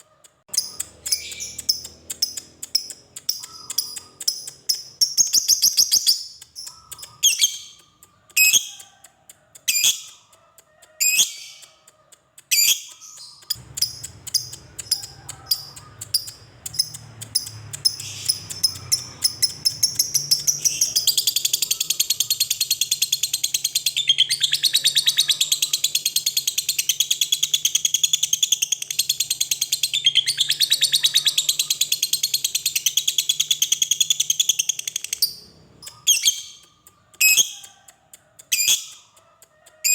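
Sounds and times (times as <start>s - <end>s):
lovebird chirping and trilling: 0.4s - 9.0s, 9.6s - 10.3s, 11.0s - 11.8s, 12.5s - 37.8s, 38.4s - 39.2s.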